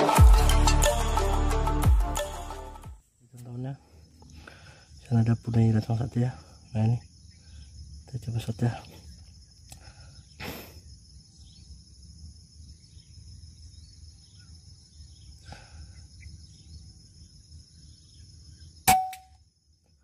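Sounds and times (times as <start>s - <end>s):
insect chorus: 3.0s - 20.0s.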